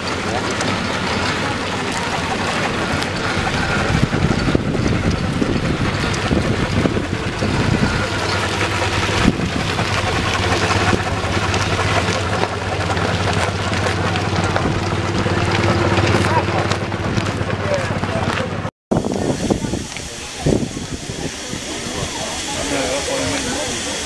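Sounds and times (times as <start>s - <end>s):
iron wheels crunching on gravel: 0.0s - 23.8s
steam engines driving past: 0.0s - 24.0s
wind buffeting microphone: 0.1s - 23.9s.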